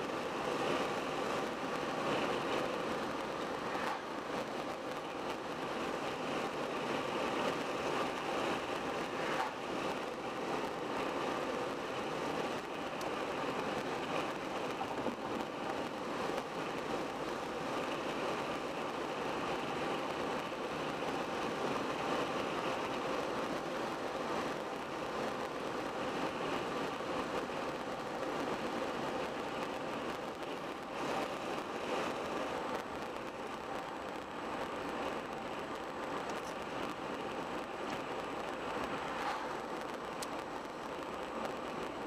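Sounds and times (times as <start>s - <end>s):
tyre and road noise: 0.0s - 42.0s.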